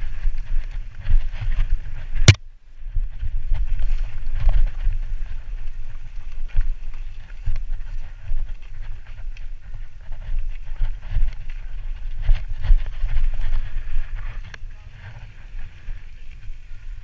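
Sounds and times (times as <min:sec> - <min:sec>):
bike rattles and clicks: 0:00.0 - 0:17.0
bike rolling on rough dirt: 0:00.0 - 0:17.0.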